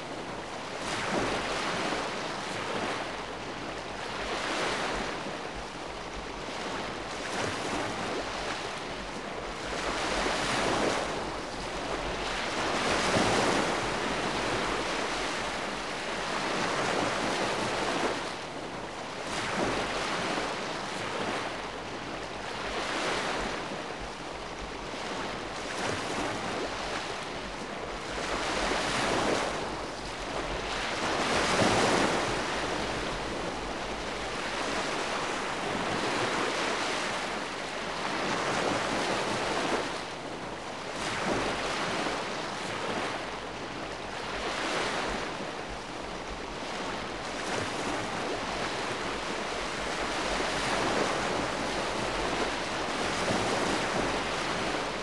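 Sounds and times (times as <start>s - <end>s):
gentle sea waves: 0.0s - 55.0s.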